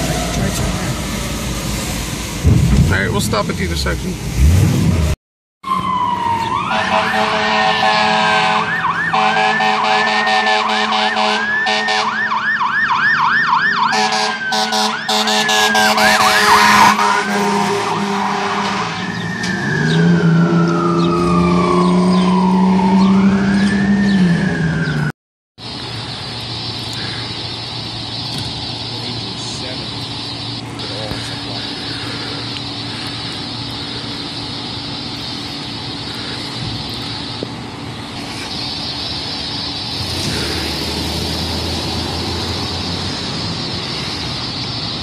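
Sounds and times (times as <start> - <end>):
fire truck siren: 0.0 - 2.6, 5.6 - 45.0.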